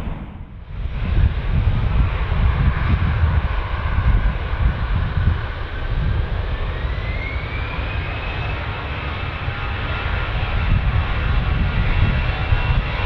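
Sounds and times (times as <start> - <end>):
airliner engines running: 0.0 - 13.0
rising engine whine: 0.0 - 13.0.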